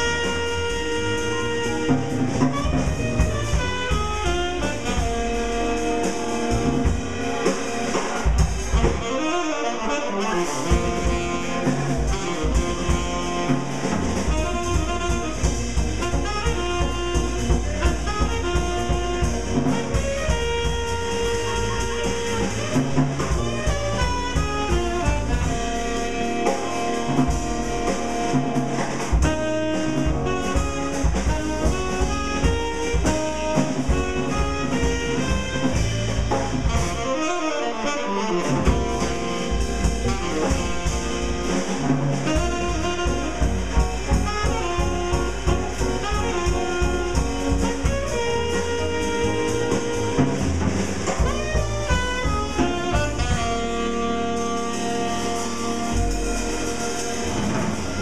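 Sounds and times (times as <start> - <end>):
drum kit: 0.0 - 58.0
jazz saxophone: 0.0 - 58.0
piano: 0.0 - 58.0
upright bass: 0.0 - 58.0.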